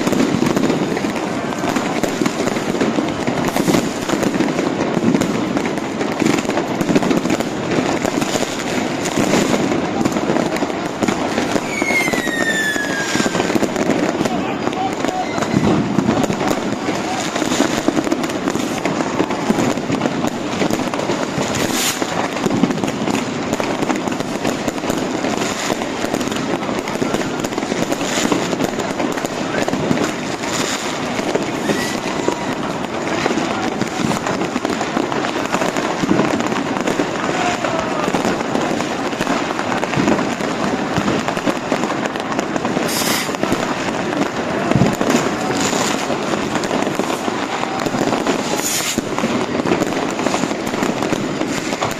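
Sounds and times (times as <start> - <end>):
crowd chatter: 0.0 - 51.9
firecracker bangs: 0.0 - 51.9
fireworks crackling and rumbling: 0.0 - 51.9.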